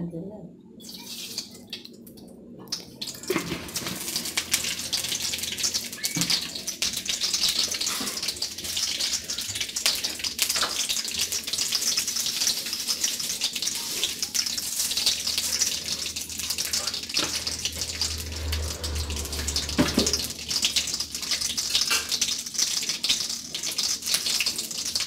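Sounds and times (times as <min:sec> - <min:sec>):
cooking oil sizzling and popping: 0:00.8 - 0:25.0.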